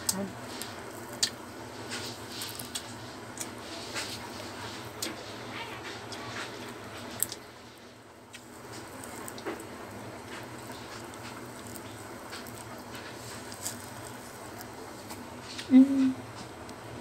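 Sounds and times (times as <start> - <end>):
eating from a metal plate: 0.0 - 16.6
steady low hum: 0.0 - 17.0.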